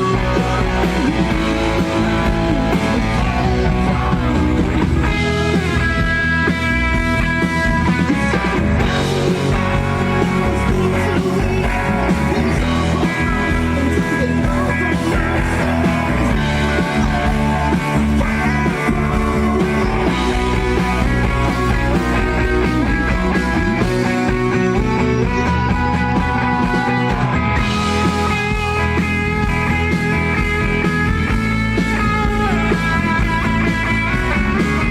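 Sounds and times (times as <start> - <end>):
electric guitar: 0.0 - 34.9
rock band playing live: 0.0 - 34.9.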